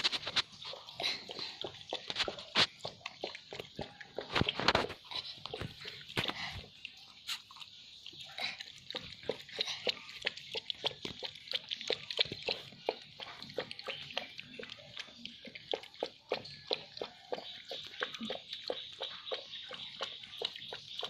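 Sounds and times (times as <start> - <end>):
dog lapping from a bowl: 0.0 - 21.0.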